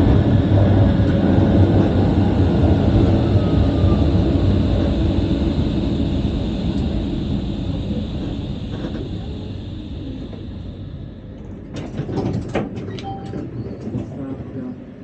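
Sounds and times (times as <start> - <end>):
tram running rumble: 0.0 - 15.0.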